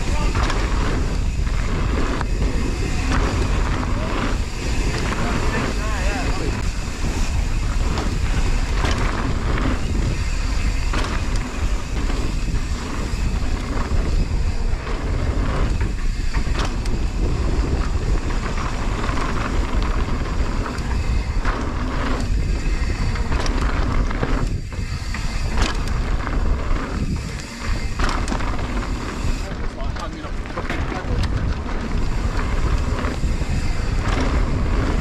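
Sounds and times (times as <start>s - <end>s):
mountain bike rattling: 0.0s - 35.0s
wind buffeting microphone: 0.0s - 35.0s.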